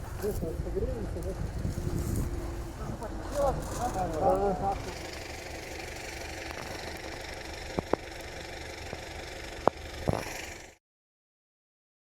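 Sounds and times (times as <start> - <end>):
low engine hum: 0.0 - 10.8.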